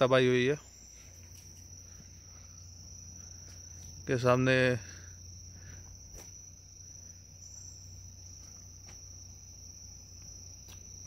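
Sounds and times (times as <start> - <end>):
crickets trilling: 0.0 - 11.0
faint low hum: 0.0 - 11.0.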